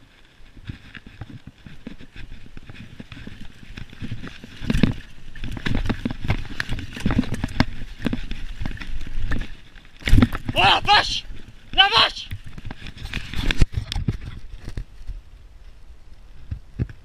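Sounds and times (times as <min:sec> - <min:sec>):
mountain bike clattering and rattling: 0:00.0 - 0:15.3.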